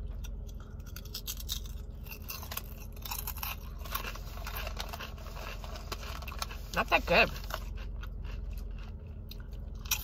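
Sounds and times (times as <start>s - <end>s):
person crunching potato chip: 0.0s - 10.0s.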